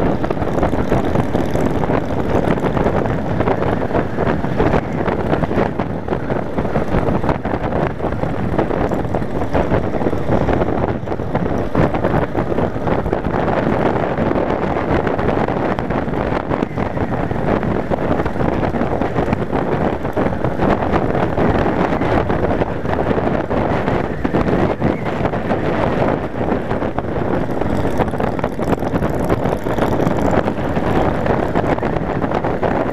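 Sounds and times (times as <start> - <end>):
motorcycle engine running: 0.0 - 32.9
wind rushing over microphone: 0.0 - 32.9.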